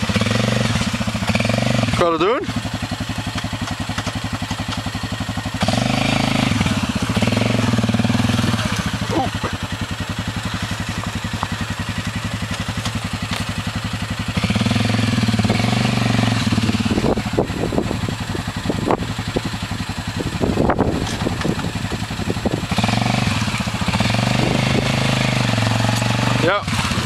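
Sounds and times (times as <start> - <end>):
quad engine revving: 0.0 - 27.0.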